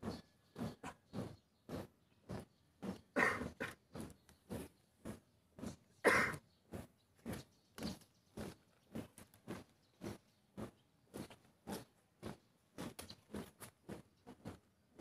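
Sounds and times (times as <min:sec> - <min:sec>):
marching feet stamping: 0:00.0 - 0:15.0.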